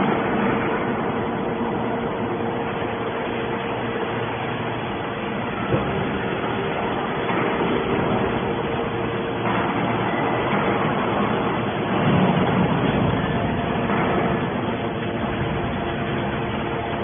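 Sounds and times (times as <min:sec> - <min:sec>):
baler engine and hydraulics humming: 0:00.0 - 0:17.0.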